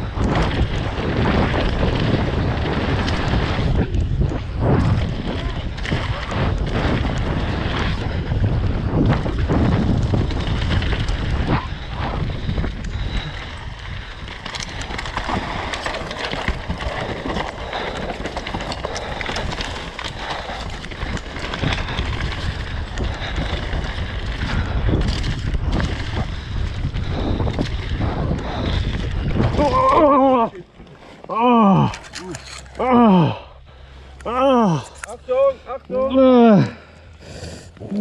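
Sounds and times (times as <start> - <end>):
wind rushing over microphone: 0.0 - 30.7
bike knocking and rattling: 0.0 - 32.8.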